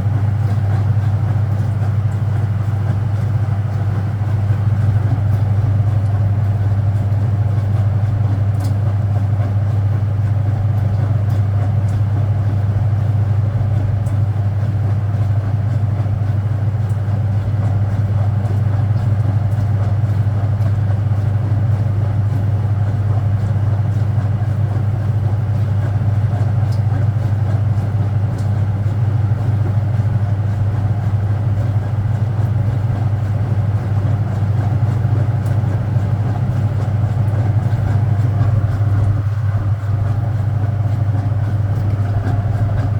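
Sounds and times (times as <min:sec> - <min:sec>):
washing machine motor hum: 0:00.0 - 0:42.9.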